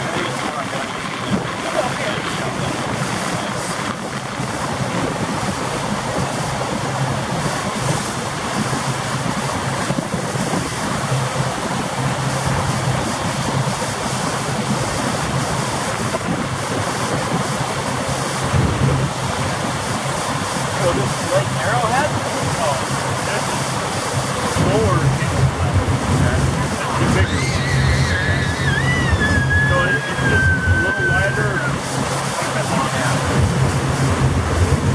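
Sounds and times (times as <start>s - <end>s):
boat motor humming: 0.0s - 34.9s
water rushing past boat: 0.0s - 34.9s
wind buffeting microphone: 0.0s - 34.9s.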